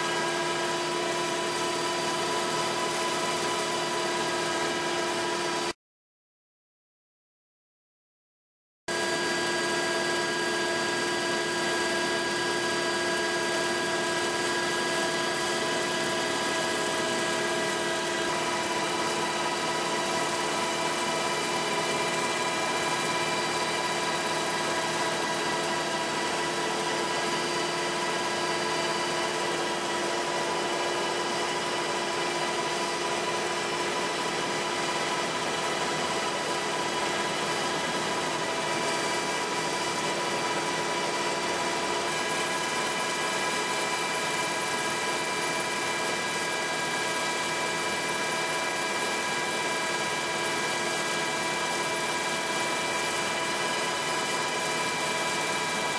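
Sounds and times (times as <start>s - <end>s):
aircraft engine drone: 0.0s - 5.7s, 9.0s - 55.9s.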